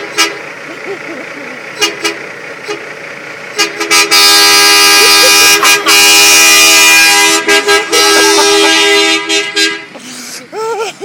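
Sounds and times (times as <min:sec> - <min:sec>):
truck horn honking: 0:00.0 - 0:00.6, 0:01.7 - 0:10.2.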